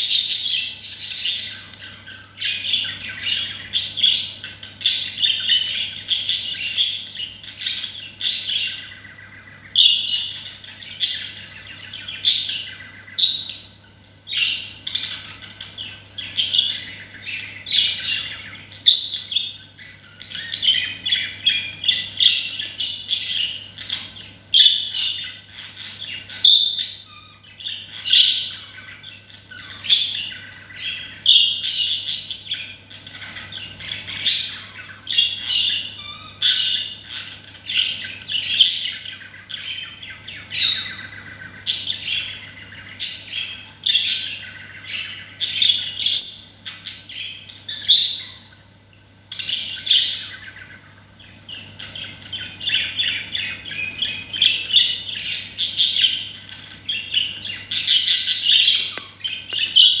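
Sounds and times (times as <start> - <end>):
budgerigars chirping: 0.0 - 60.0.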